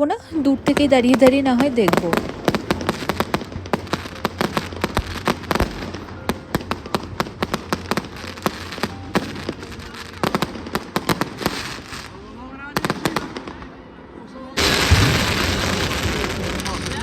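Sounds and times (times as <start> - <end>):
deep firework bangs: 0.3 - 13.7, 14.6 - 17.0
firecrackers cracking and popping: 0.3 - 13.7, 14.6 - 17.0.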